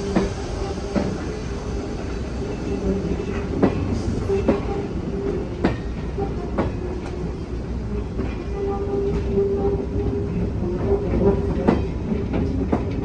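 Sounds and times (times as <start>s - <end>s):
freight train rumble: 0.0s - 13.0s
train wheels clicking over rail joints: 0.0s - 13.0s.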